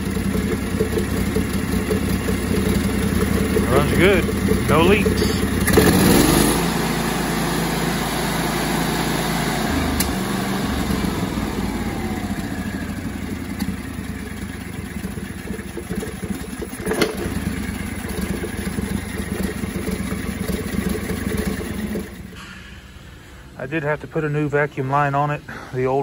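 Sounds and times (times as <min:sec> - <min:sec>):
engine running steadily: 0:00.0 - 0:24.4.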